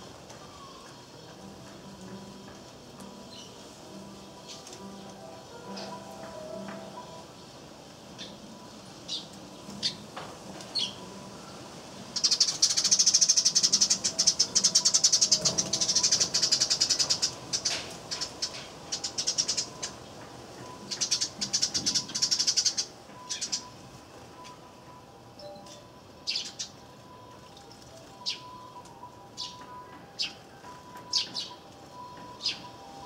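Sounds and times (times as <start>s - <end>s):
sparrows chirping: 0.0s - 23.8s, 25.4s - 33.0s.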